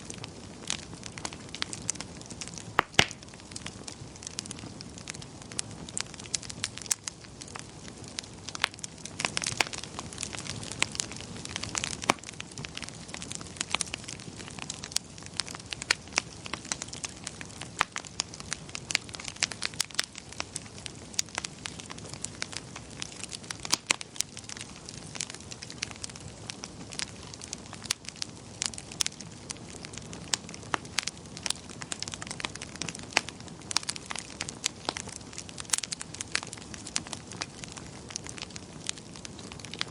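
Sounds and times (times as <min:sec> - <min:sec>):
fire crackling and popping: 0:00.0 - 0:39.9
rush of flames: 0:00.0 - 0:39.9.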